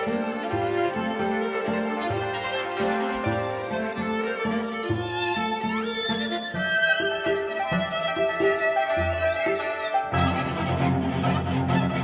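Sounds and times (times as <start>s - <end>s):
bowed strings sustained notes: 0.0s - 12.0s.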